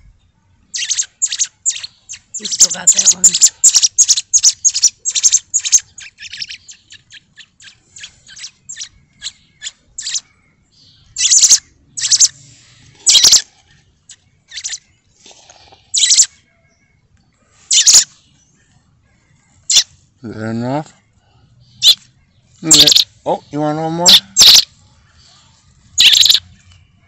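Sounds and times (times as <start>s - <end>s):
fledgling bird chirping: 0.7s - 26.8s.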